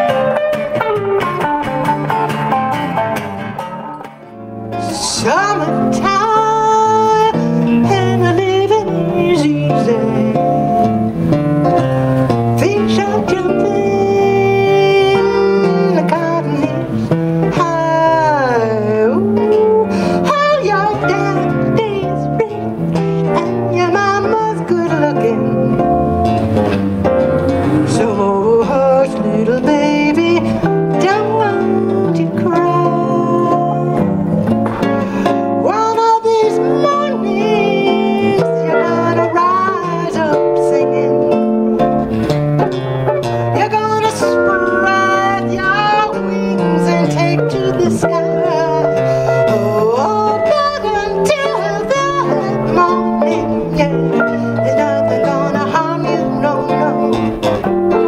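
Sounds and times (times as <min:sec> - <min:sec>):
acoustic and electric guitars: 0:00.0 - 0:58.0
woman singing into microphone: 0:04.7 - 0:58.0.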